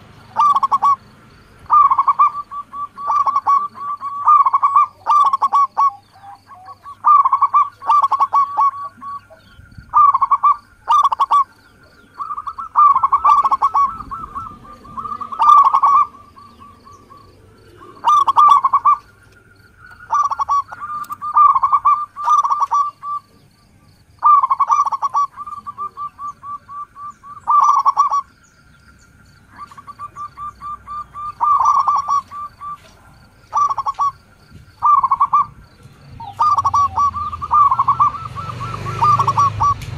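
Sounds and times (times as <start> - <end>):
faint continuous trill: 0.0 - 37.5
doves cooing in staccato notes: 0.0 - 39.9.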